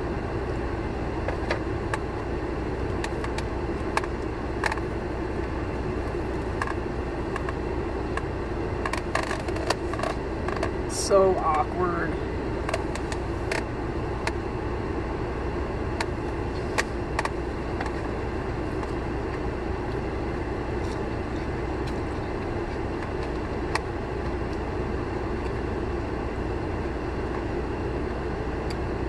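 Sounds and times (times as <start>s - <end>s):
car cabin hum: 0.0s - 29.0s.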